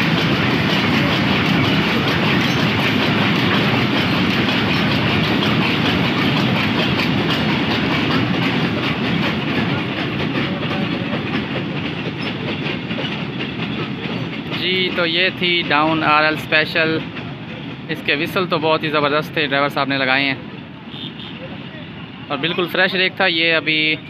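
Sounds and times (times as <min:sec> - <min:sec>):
train wheels clattering over rail joints: 0:00.0 - 0:20.8.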